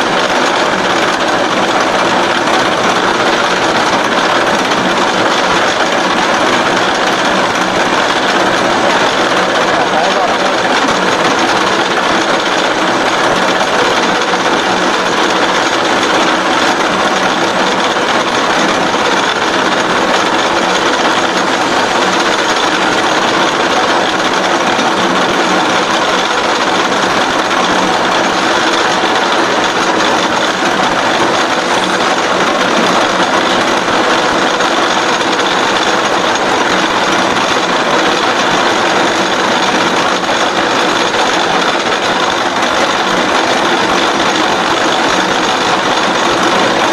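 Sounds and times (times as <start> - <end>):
milling machine cutting steel: 0.0 - 46.9.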